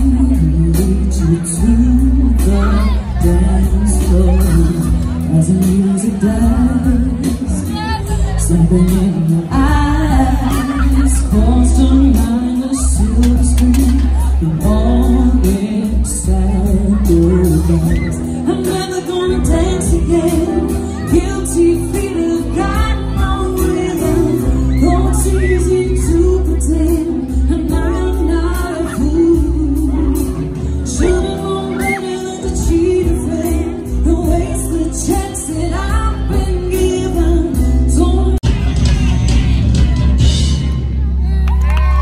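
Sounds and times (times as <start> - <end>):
woman singing: 0.0 - 38.4
live rock band playing: 0.0 - 42.0.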